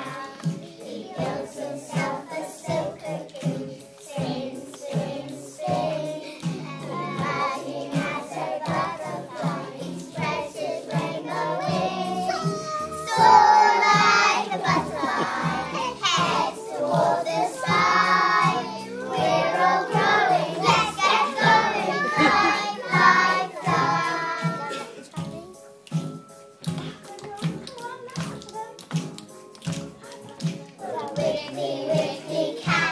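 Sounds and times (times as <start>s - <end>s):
children singing: 0.0s - 25.1s, 30.2s - 32.9s
musical accompaniment: 0.0s - 32.9s.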